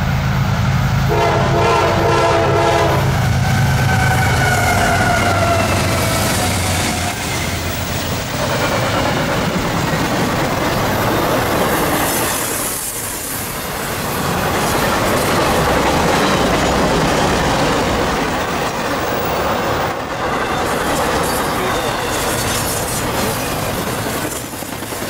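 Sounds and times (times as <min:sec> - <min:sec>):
train wheels on track: 0:00.0 - 0:25.0.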